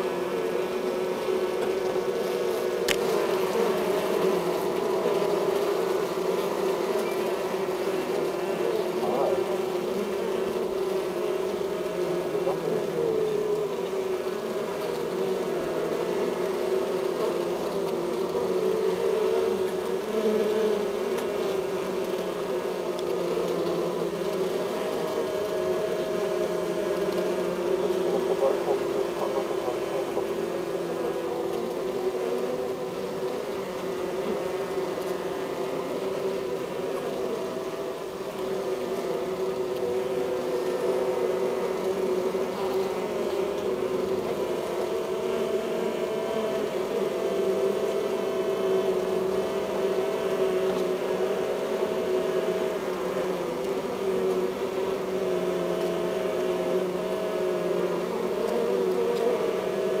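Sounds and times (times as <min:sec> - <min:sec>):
honeybee colony humming: 0:00.0 - 1:00.0.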